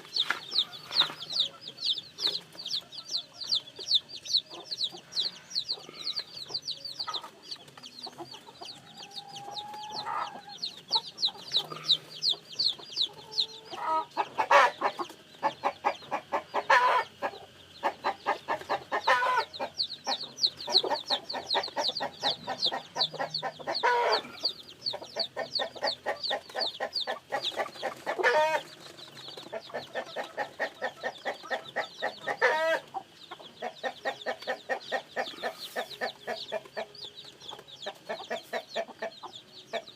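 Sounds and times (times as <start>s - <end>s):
adult chickens clucking: 0.0s - 39.9s
chicks peeping: 0.0s - 39.9s.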